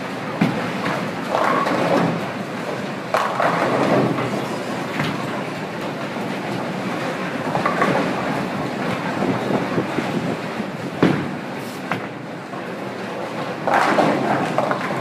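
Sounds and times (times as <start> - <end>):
bowling balls rolling: 0.4 - 15.0.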